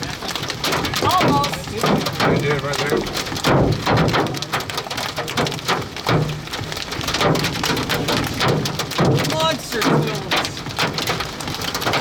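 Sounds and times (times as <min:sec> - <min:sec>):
hail hitting a vehicle: 0:00.0 - 0:12.0
heavy rain: 0:00.0 - 0:12.0.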